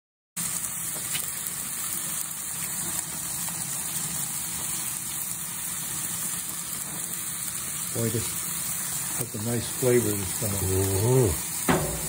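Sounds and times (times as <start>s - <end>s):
meat sizzling on grill: 0.4s - 12.0s.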